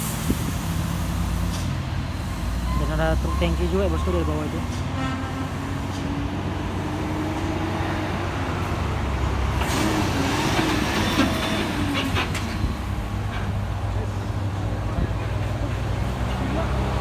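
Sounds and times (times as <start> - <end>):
heavy truck diesel engines: 0.0 - 17.0.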